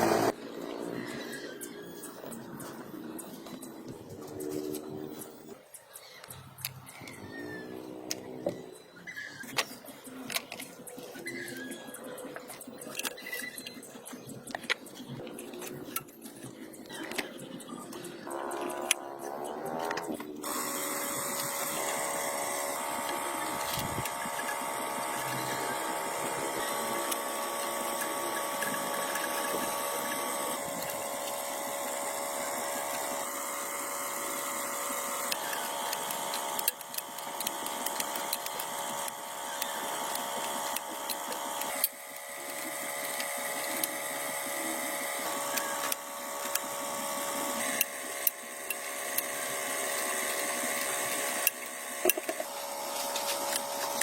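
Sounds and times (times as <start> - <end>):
power tool whining: 0.0 - 5.5, 6.2 - 54.0.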